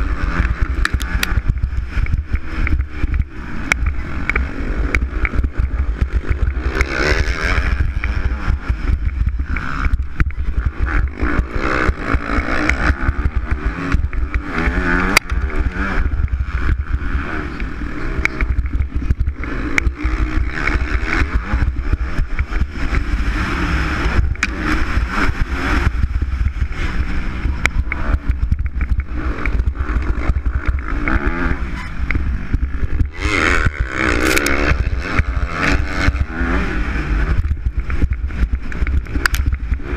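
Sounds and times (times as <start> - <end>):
knocks from rough dirt track: 0.0 - 39.9
motocross bike engine revving: 0.0 - 39.9
wind buffeting microphone: 0.0 - 39.9.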